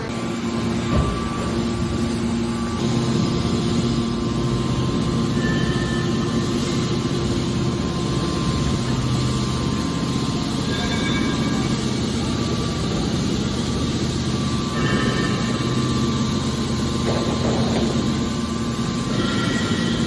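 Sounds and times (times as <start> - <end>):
industrial machinery humming: 0.0 - 20.0.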